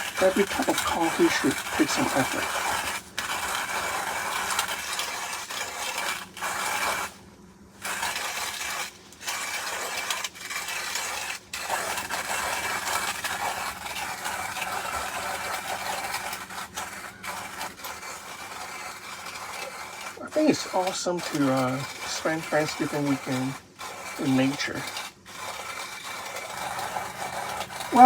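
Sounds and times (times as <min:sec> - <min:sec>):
hand coffee grinder grinding: 0:00.0 - 0:07.2, 0:07.8 - 0:28.0.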